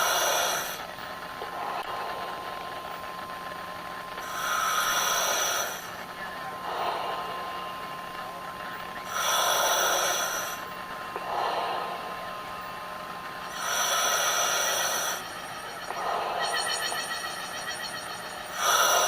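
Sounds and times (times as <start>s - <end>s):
faint steady hum: 0.0s - 19.0s
rhythmic hissing surges: 0.0s - 19.0s.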